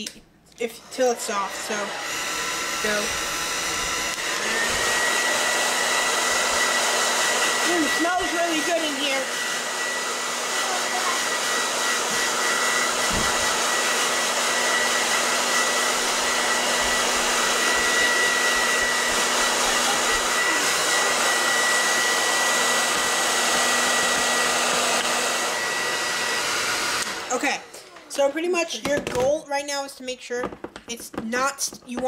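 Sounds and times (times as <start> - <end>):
hair dryer blowing: 0.0 - 29.8.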